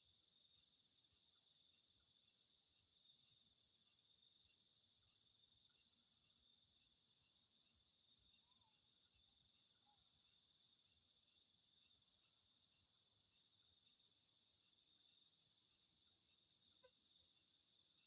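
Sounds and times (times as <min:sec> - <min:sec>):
insect chirping rhythmically: 0:00.0 - 0:18.0.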